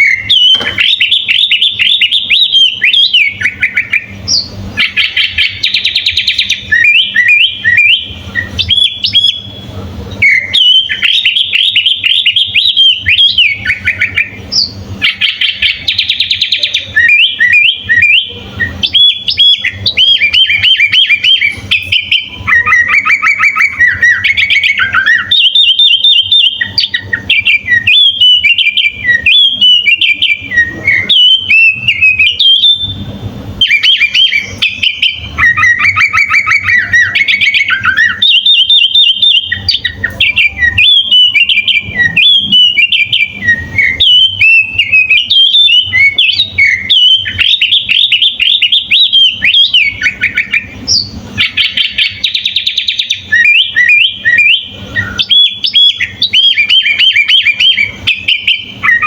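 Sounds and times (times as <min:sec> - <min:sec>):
bulbul singing whistled notes: 0:00.0 - 0:59.0.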